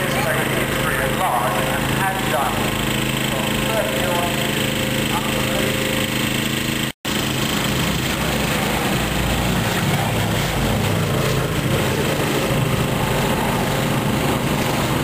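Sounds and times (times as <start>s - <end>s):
piston aircraft engines droning: 0.0s - 15.0s.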